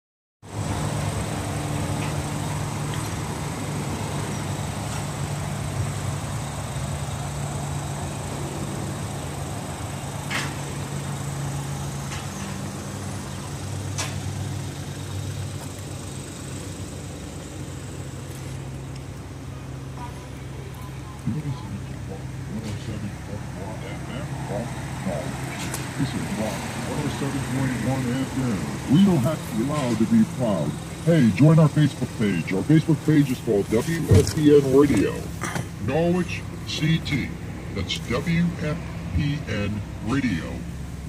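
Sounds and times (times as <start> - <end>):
car engine idling: 0.4 - 41.0.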